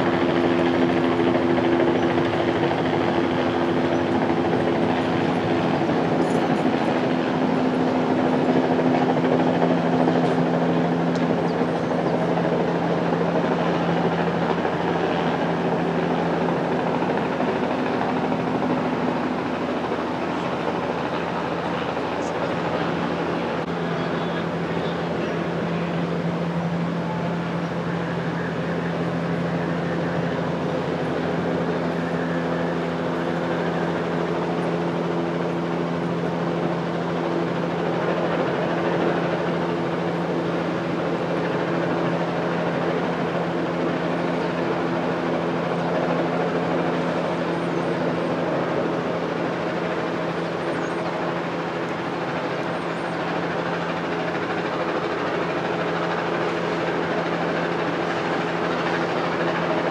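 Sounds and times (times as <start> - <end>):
large engine idling: 0.0 - 59.9.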